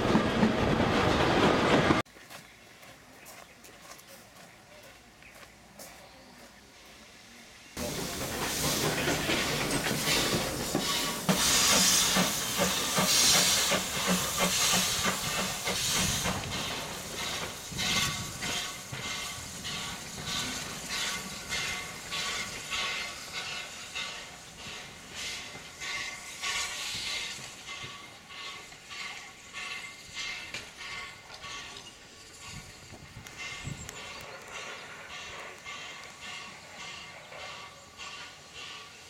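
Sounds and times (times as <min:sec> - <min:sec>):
steam hiss: 0:06.1 - 0:39.0
steam locomotive exhaust chuffs: 0:06.8 - 0:39.0.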